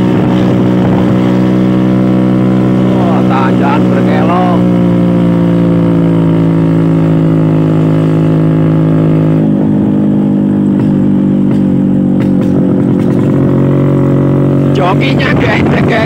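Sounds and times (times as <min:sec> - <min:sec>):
scooter engine pulling uphill: 0:00.0 - 0:16.0.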